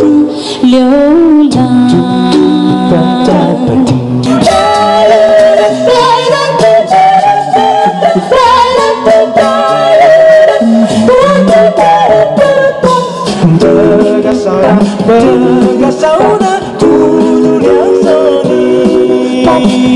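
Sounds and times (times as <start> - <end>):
a cappella group singing in harmony: 0.0 - 19.9
female lead voice singing: 0.0 - 19.9.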